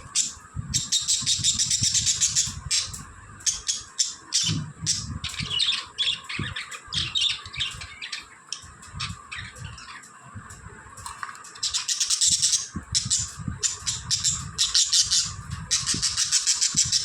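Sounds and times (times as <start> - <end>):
budgies chirping and chattering: 0.0 - 10.2, 11.6 - 17.0.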